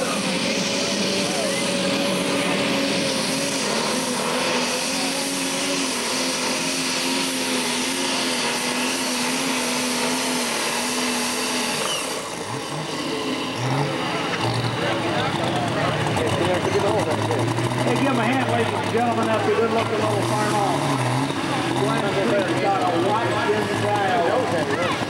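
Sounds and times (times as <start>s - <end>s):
pulling tractor diesel engine roaring: 0.0s - 25.0s.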